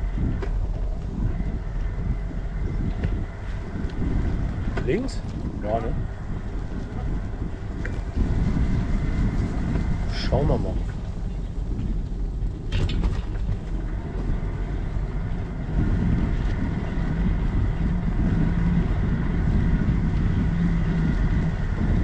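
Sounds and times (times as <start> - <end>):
steady hum: 0.0 - 22.0
tyres rumbling on pavement: 0.0 - 22.0
wind buffeting microphone: 0.0 - 22.0.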